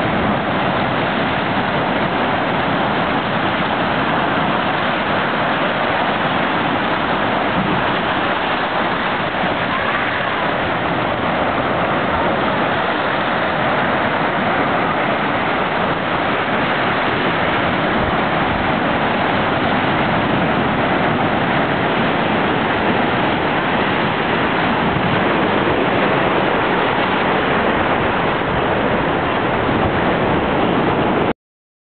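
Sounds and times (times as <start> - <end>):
waves breaking on rocky beach: 0.0 - 31.3.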